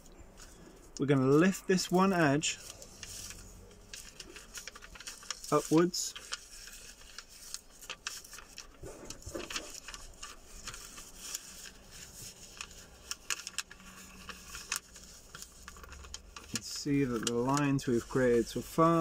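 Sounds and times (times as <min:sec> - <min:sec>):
paper rustling as it is folded: 0:00.0 - 0:19.0.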